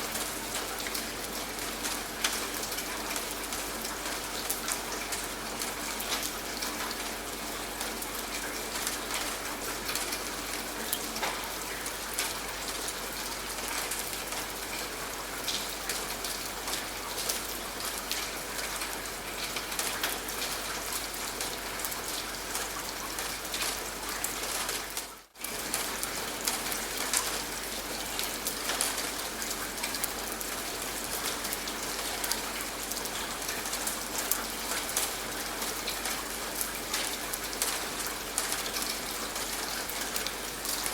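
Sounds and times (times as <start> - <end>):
rain drops ticking on a surface: 0.0 - 40.9.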